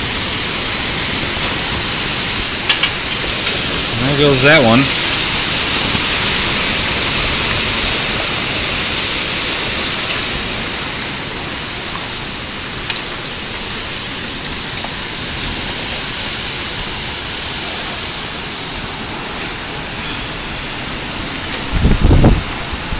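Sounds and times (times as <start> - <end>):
gusting wind: 0.0 - 22.9
heavy rain: 0.0 - 22.9.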